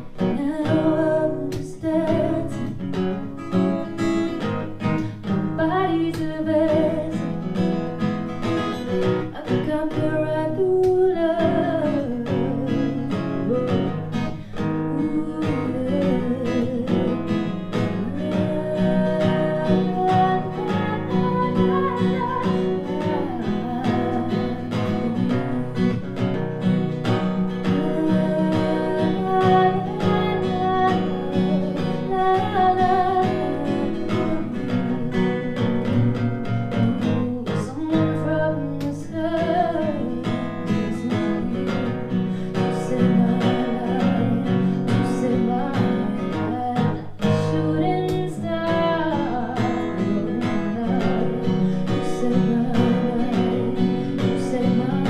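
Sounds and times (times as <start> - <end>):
person singing: 0.0 - 2.9, 5.0 - 7.4, 8.9 - 36.0, 36.8 - 55.0
acoustic guitar strummed and picked: 0.0 - 55.0.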